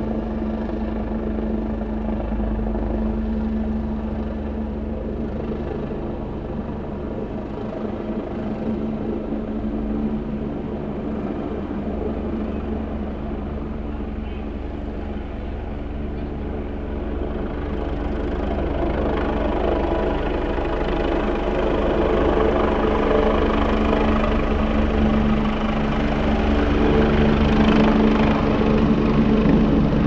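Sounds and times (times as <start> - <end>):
helicopter engine and rotor: 0.0 - 30.0.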